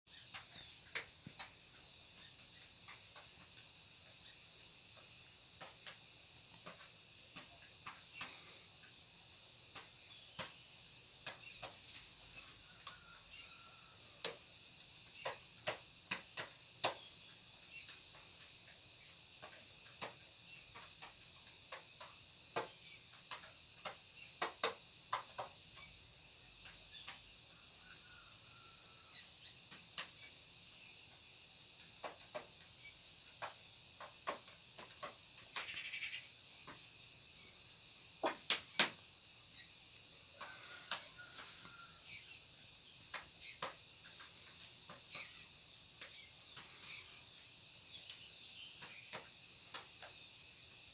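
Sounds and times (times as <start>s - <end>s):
beak tapping on grain: 0.1s - 37.6s, 38.2s - 47.0s, 47.9s - 50.9s
steady high hiss: 0.1s - 50.9s.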